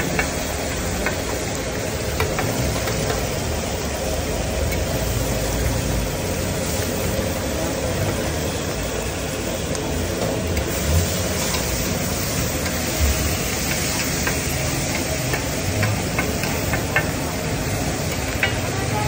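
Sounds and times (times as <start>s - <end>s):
liver sizzling on a griddle: 0.0s - 19.0s.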